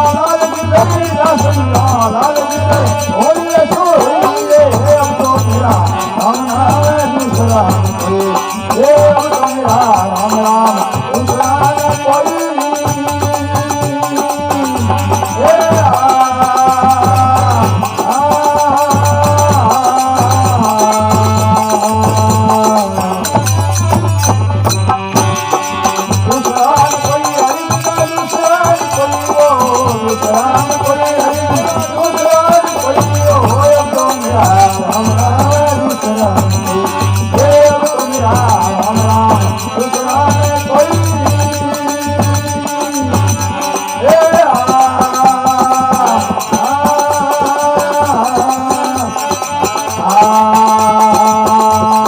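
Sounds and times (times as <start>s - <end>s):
drum beat: 0.0s - 52.0s
hand cymbals: 0.0s - 52.0s.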